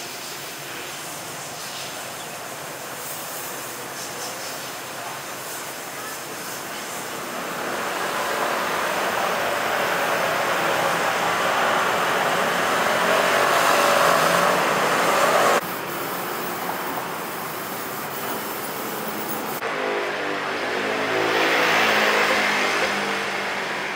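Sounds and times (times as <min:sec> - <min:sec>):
road traffic noise: 0:00.0 - 0:23.9
steady street sound: 0:00.0 - 0:23.9.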